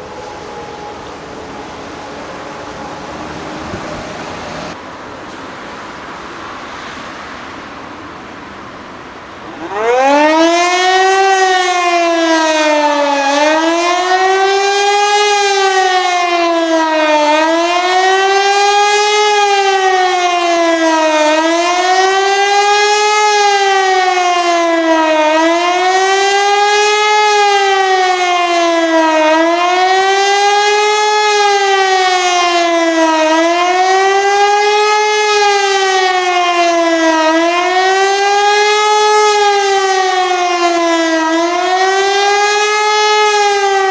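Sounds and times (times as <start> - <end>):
wailing air raid siren: 0.0 - 4.8, 9.3 - 43.9.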